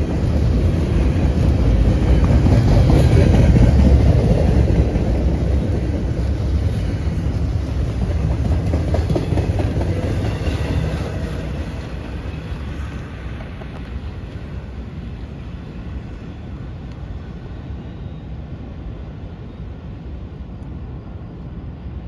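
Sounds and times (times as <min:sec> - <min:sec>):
low rumble of passing train: 0:00.0 - 0:22.0.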